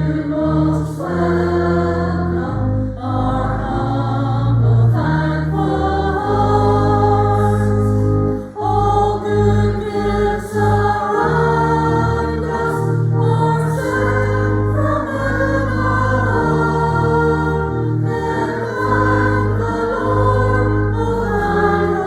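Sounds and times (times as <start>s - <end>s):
choir singing a hymn: 0.0s - 22.0s
instrumental accompaniment with bass notes: 0.0s - 22.0s.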